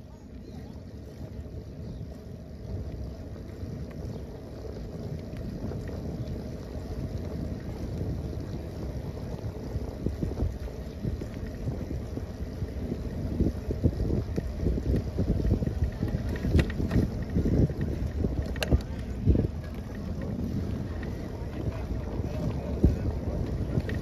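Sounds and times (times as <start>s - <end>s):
tyres rolling over brick pavers: 0.0s - 24.0s
wind buffeting microphone: 0.0s - 24.0s.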